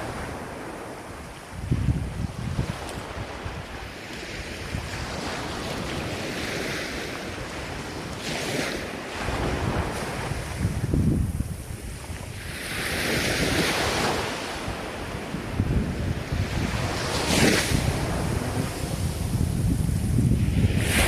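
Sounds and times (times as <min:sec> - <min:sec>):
waves breaking: 0:00.0 - 0:21.0
wind buffeting microphone: 0:00.0 - 0:21.0.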